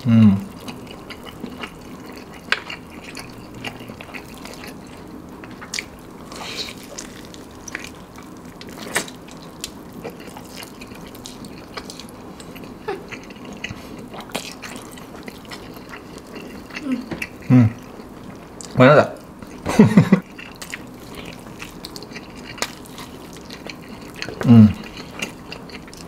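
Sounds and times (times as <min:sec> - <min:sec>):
chewing fried chicken: 0:00.0 - 0:26.0.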